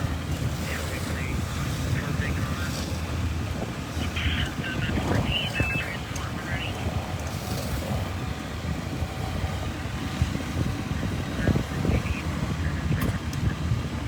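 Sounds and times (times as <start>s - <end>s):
fire engines rumbling: 0.0s - 14.0s
wind gusting against microphone: 0.0s - 14.0s.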